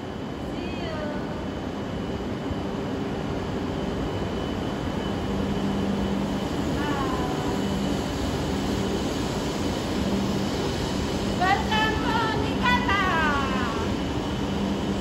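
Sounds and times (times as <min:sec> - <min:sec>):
train rumbling past platform: 0:00.0 - 0:15.0.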